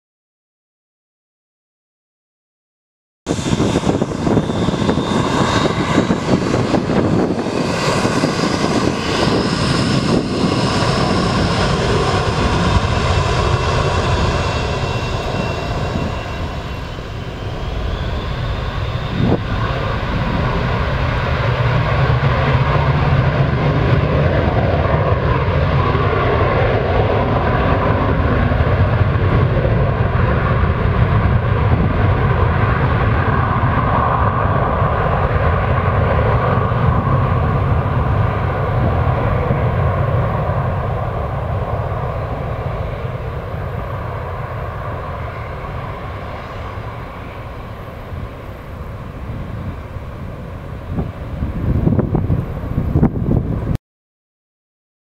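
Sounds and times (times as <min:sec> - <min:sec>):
jet engines at takeoff: 0:03.3 - 0:53.8.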